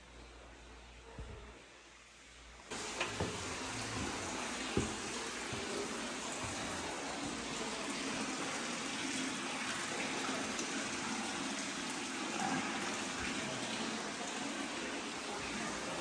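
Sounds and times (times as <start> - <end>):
running water rushing: 2.7 - 16.0.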